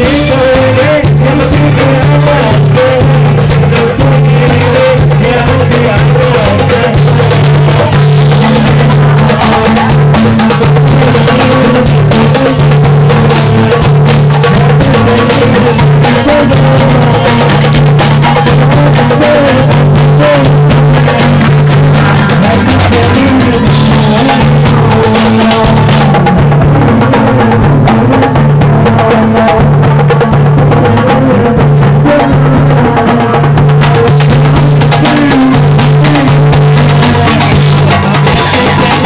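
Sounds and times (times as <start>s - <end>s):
drums and percussion: 0.0s - 39.0s
sustained low bass: 0.0s - 39.0s.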